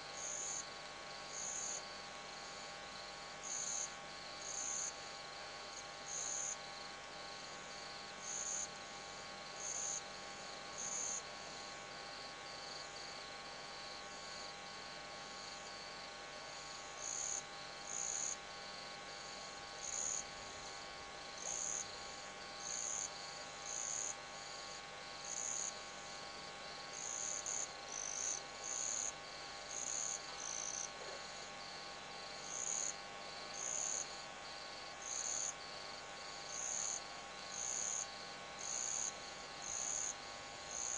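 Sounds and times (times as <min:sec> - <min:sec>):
crickets trilling: 0:00.1 - 0:40.9.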